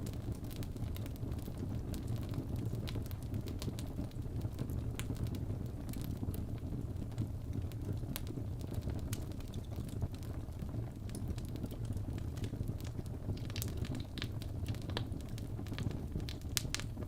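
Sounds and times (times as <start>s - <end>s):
fire flames rumbling: 0.0s - 17.0s
fire popping and crackling: 0.0s - 17.0s.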